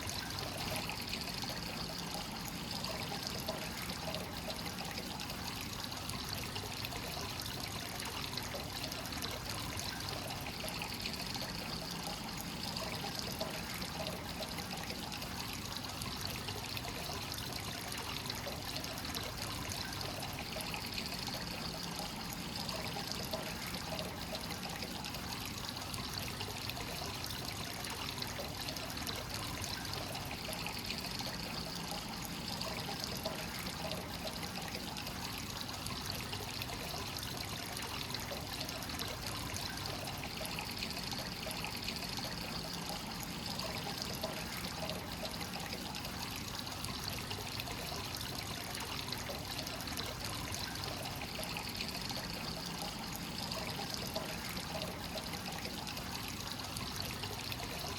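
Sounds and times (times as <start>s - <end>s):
water trickling and splashing: 0.0s - 57.9s.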